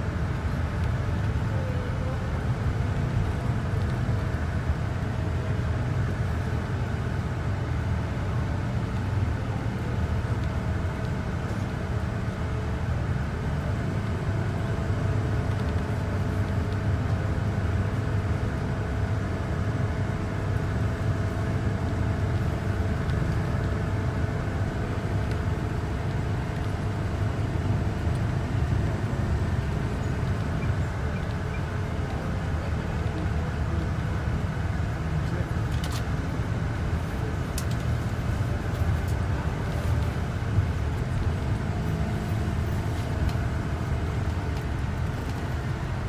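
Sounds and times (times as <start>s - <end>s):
car engine and tyre noise: 0.0s - 46.0s.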